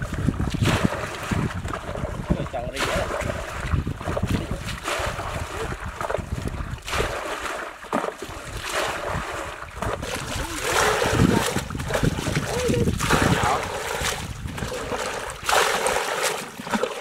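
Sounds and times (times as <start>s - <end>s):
wind rumbling on microphone: 0.0s - 16.1s
water sloshing and splashing: 0.0s - 17.0s.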